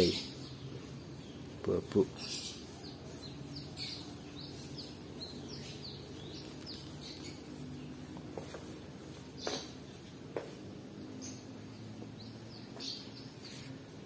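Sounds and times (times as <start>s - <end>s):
small bird chirping: 0.0s - 10.2s, 11.0s - 14.0s.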